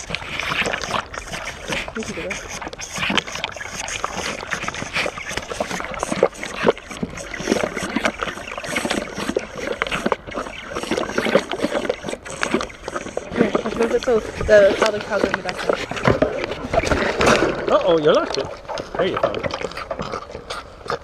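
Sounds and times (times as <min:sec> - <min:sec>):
calf sucking from bottle: 0:00.0 - 0:21.0.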